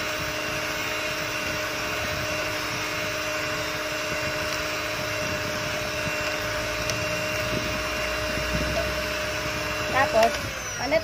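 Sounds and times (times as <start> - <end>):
electric hand mixer whirring: 0.0 - 11.0.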